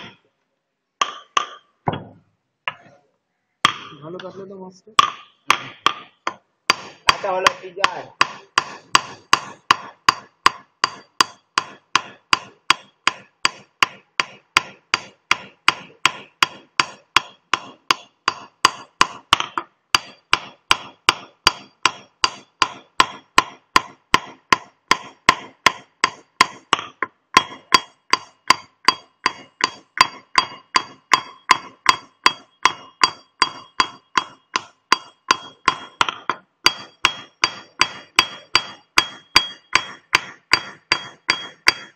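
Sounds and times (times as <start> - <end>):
hammer striking chisel on stone: 0.0 - 0.3, 1.0 - 2.9, 3.6 - 4.4, 5.0 - 41.9.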